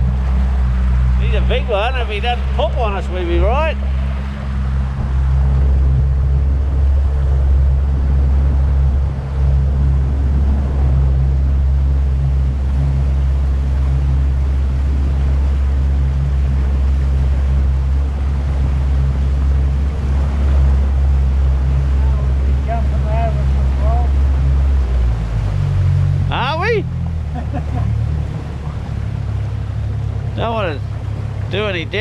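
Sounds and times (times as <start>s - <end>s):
outboard motor running: 0.0s - 32.0s
water and wind hissing: 0.0s - 32.0s.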